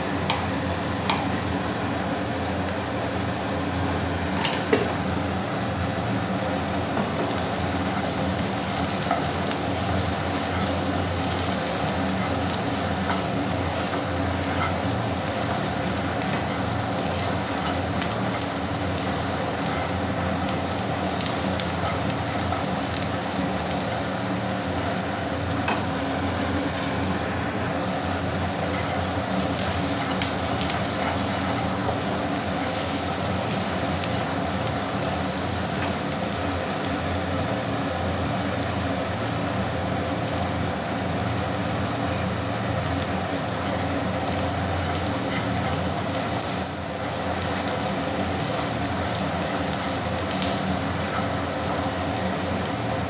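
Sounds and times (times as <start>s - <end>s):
food sizzling in hot oil: 0.0s - 53.0s.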